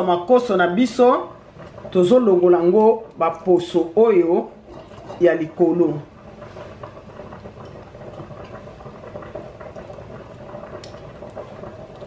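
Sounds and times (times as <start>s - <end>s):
pot boiling and bubbling: 0.0s - 12.0s.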